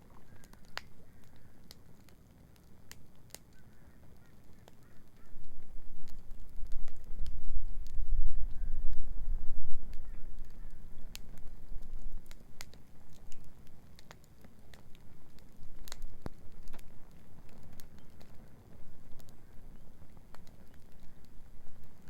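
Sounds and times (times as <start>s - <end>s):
bonfire crackling and popping: 0.0s - 22.0s.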